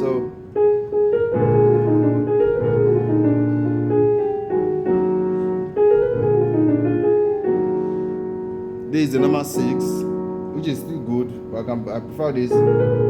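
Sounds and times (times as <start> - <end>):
keyboard piano chords: 0.0 - 13.0.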